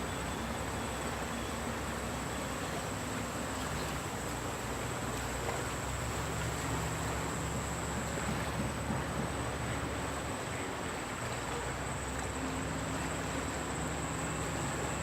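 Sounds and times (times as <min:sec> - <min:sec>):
fast-flowing river: 0:00.0 - 0:15.0.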